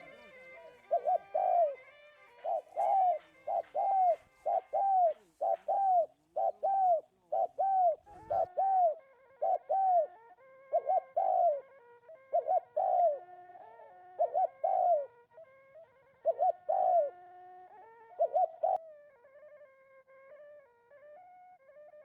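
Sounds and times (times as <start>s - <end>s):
dove cooing: 0.0s - 15.2s, 15.8s - 18.9s.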